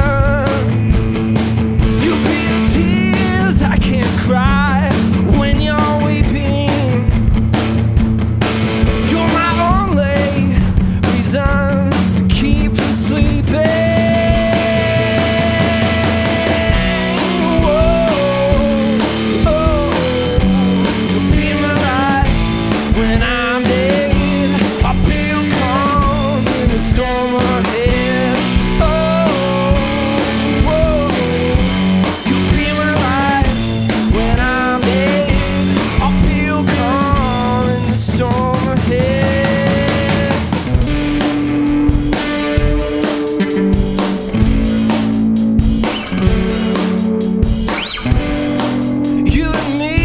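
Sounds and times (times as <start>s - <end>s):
drum beat: 0.0s - 50.0s
electric guitar: 0.0s - 50.0s.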